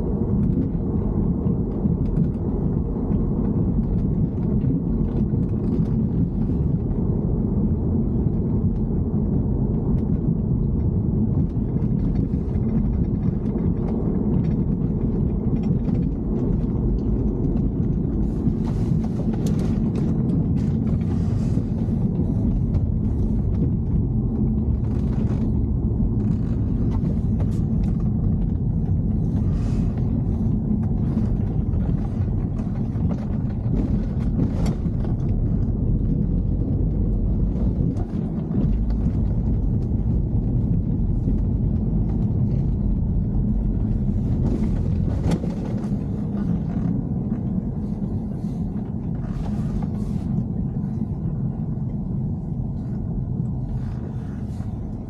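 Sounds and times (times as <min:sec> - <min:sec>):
car low rumble: 0:00.0 - 0:55.0.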